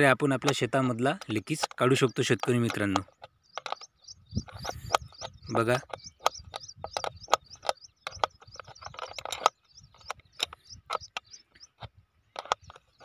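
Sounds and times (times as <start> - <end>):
spanner clicking on bolts: 0.4 - 11.7.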